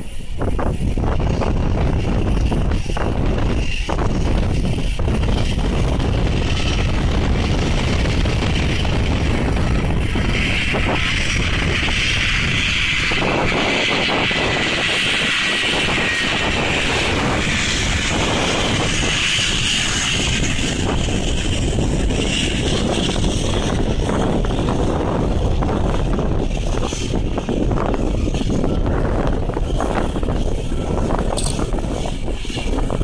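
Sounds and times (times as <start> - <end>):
jet airliner taking off: 0.0 - 33.0
wind buffeting microphone: 0.0 - 33.0.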